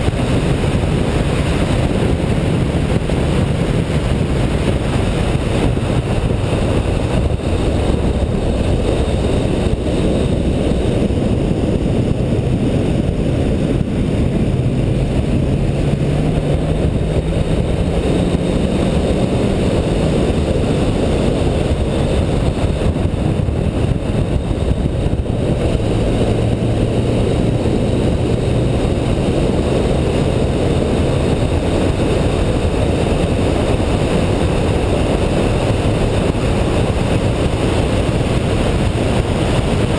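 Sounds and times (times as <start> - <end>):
car engine running: 0.0 - 39.9
wind and road noise: 0.0 - 39.9.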